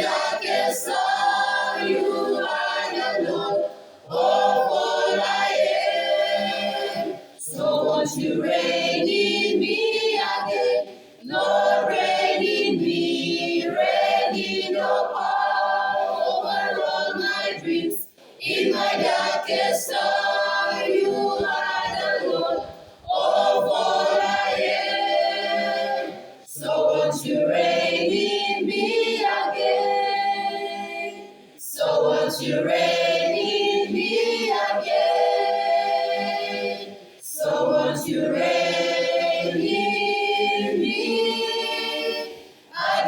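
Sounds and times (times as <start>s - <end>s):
choir singing a cappella: 0.0s - 43.0s.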